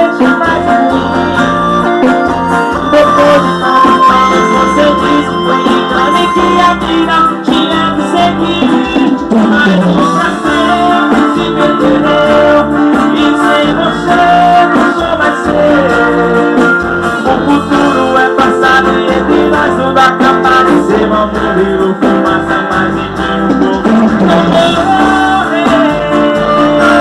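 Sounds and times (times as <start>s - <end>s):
popular song with guitar: 0.0s - 27.0s.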